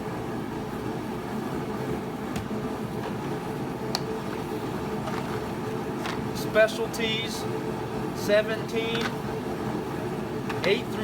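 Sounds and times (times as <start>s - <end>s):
space heater humming: 0.0s - 11.0s.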